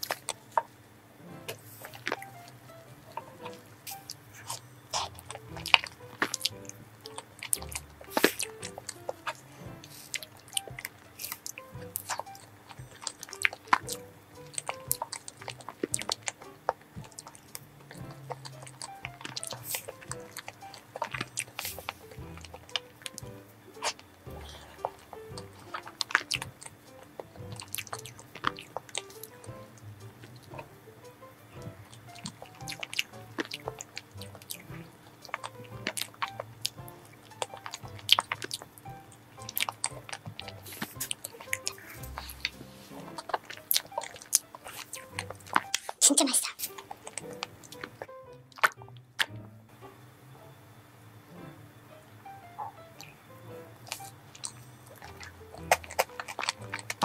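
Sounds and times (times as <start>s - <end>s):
chewing and mouth sounds: 0.0s - 0.7s, 1.5s - 49.4s, 53.8s - 57.0s
background music: 1.1s - 57.0s.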